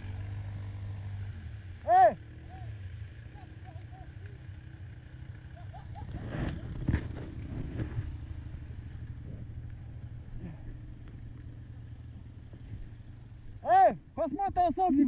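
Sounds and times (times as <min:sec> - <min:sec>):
quad engine running at low revs: 0:00.0 - 0:15.0.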